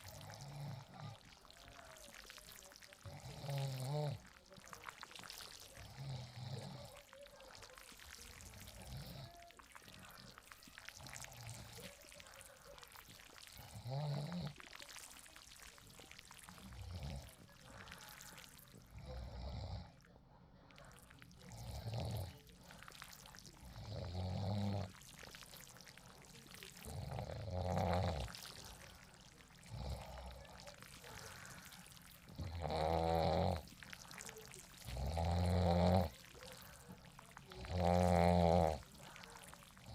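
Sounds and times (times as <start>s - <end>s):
person snoring: 0.0s - 20.1s, 20.7s - 39.9s.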